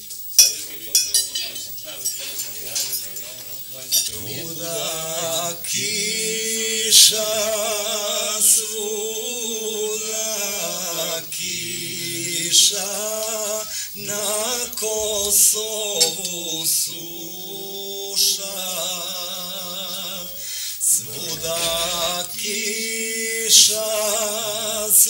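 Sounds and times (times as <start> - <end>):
man singing unaccompanied: 3.8 - 25.0.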